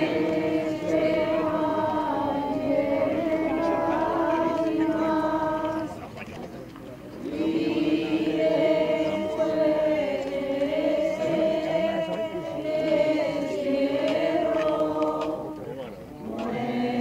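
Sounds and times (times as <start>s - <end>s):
voices singing a slow chant: 0.0s - 17.0s.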